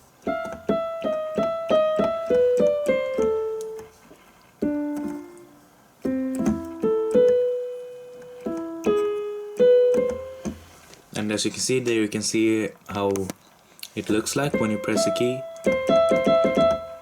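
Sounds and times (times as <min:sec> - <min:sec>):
keyboard piano melody: 0:00.0 - 0:10.8, 0:14.1 - 0:17.0.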